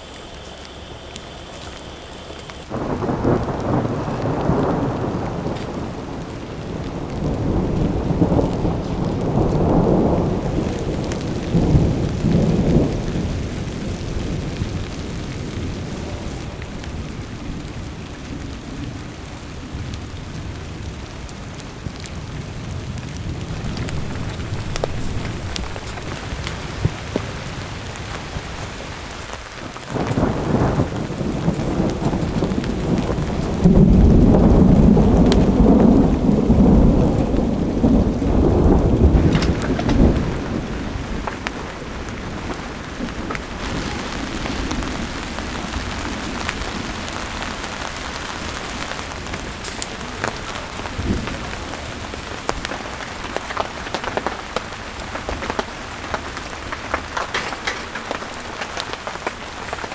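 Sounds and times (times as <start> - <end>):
rain falling: 0.0 - 59.9
rolling thunder: 0.0 - 59.9.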